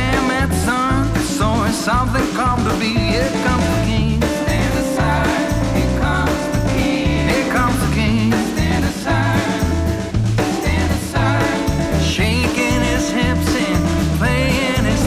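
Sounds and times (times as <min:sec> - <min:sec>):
rock and roll music: 0:00.0 - 0:15.0.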